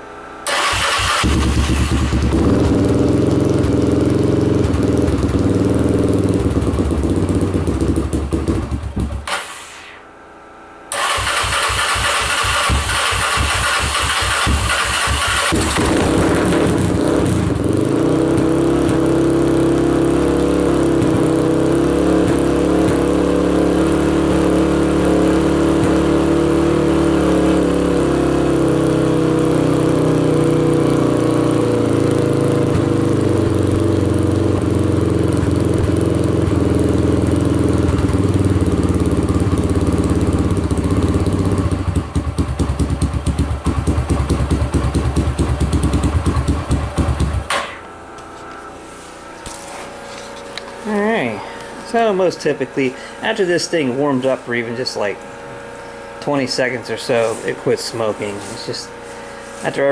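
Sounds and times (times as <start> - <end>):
engine running: 0.0 - 10.0, 10.9 - 59.9.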